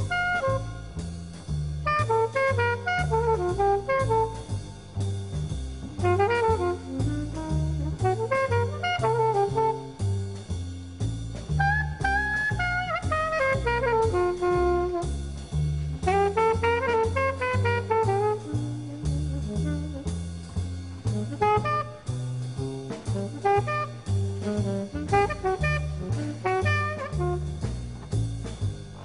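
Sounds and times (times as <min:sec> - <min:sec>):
instrumental jazz music: 0:00.0 - 0:29.0.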